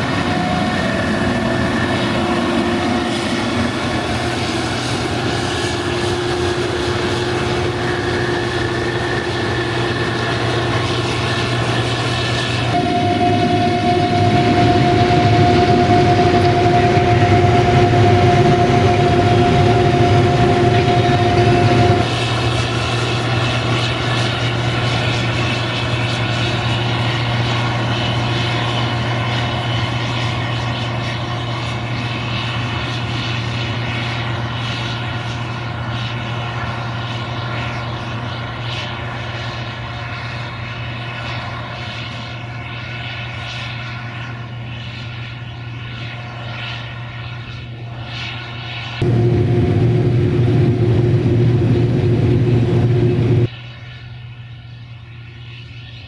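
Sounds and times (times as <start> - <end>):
drone rotors humming: 0.0 - 48.2, 49.0 - 56.0
combine machinery whining: 0.0 - 53.5.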